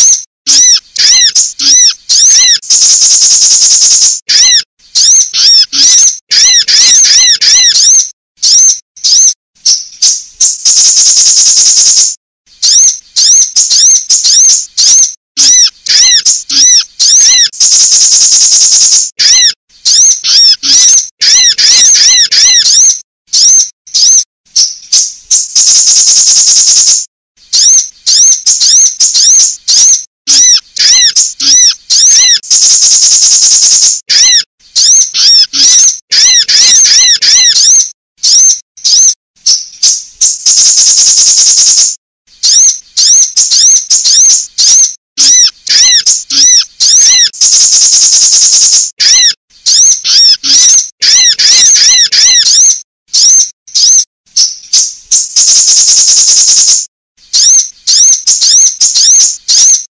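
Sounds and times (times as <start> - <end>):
high buzzy bird trill: 0.0 - 59.9.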